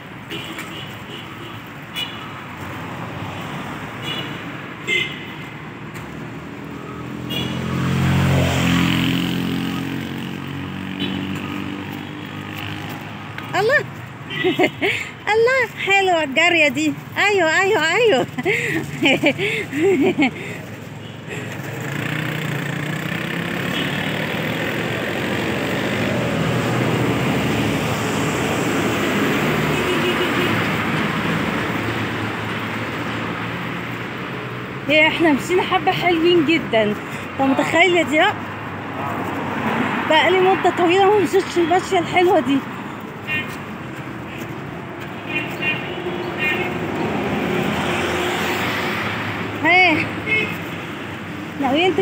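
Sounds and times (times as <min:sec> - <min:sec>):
vehicle passing by: 0:05.4 - 0:52.0.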